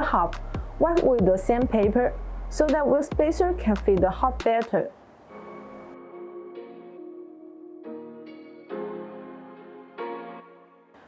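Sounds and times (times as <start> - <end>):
soft instrumental music: 0.0 - 4.5, 5.3 - 11.0.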